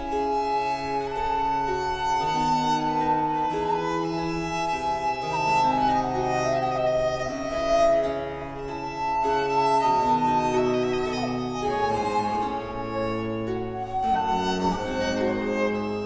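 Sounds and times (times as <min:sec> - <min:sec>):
cello: 0:00.0 - 0:16.0
violin: 0:00.0 - 0:16.0.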